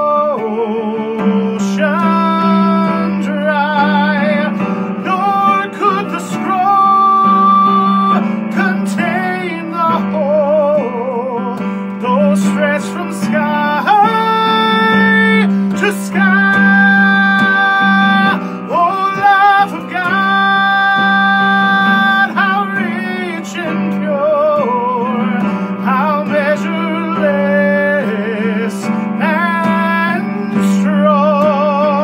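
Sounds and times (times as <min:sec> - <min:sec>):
electric keyboard chords: 0:00.0 - 0:32.0
man singing with vibrato: 0:00.0 - 0:32.0.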